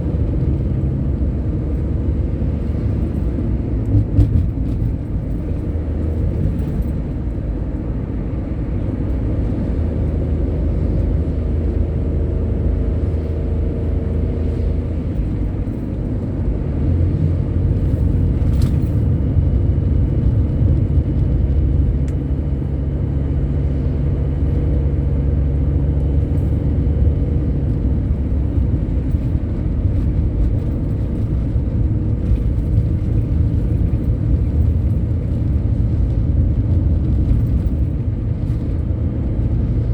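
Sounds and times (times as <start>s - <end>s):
heavy vehicle engine rumble: 0.0s - 39.9s
road noise: 0.0s - 39.9s.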